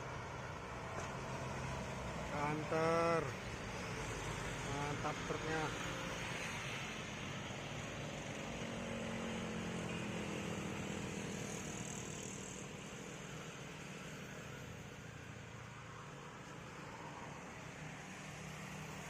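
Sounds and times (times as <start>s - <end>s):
diesel truck engine hum: 0.0s - 19.0s.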